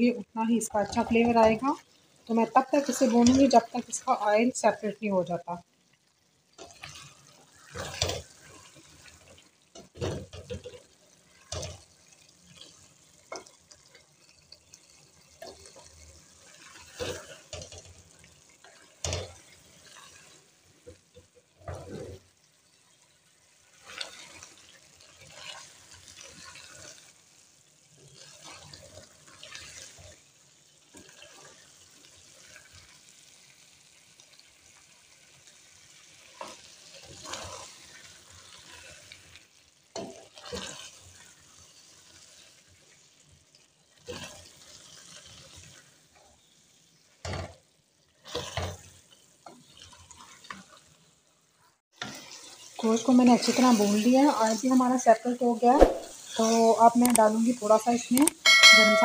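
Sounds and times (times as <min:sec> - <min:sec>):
low sizzle: 0:00.0 - 0:59.0.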